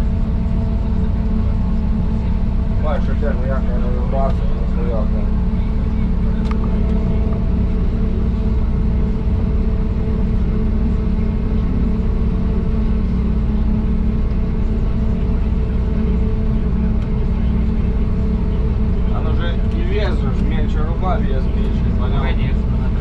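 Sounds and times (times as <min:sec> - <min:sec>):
forage harvester engine droning: 0:00.0 - 0:23.0.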